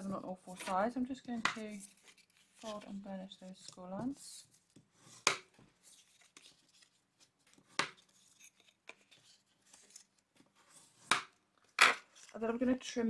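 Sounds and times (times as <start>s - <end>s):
faint paper rustling: 0.0s - 12.9s.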